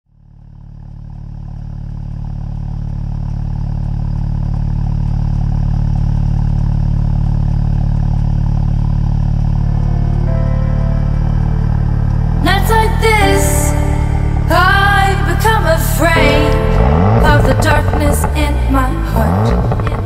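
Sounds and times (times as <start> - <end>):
engine idling: 0.1 - 20.0.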